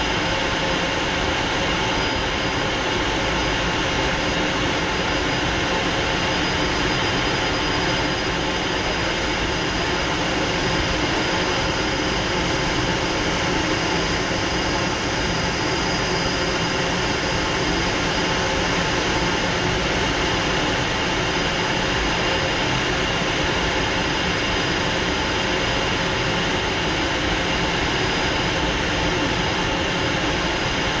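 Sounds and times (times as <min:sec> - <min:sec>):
jet engine whine: 0:00.0 - 0:31.0.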